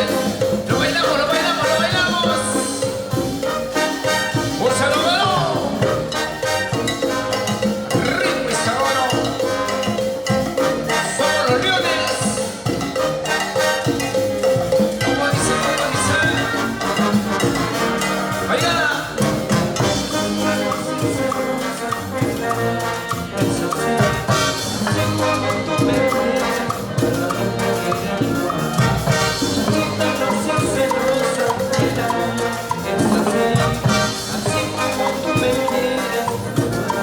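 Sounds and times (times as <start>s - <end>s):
band playing cumbia: 0.0s - 37.0s.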